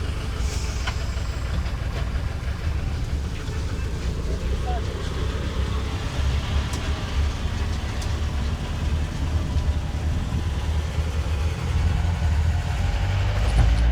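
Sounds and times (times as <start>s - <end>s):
train engine rumble: 0.0s - 13.9s.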